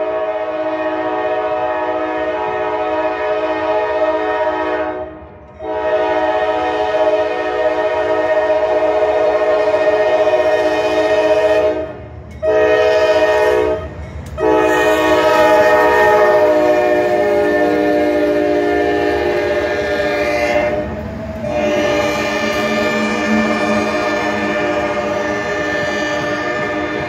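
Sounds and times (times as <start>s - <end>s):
locomotive air horn blowing: 0.0s - 27.0s
low rumble of train: 0.0s - 27.0s.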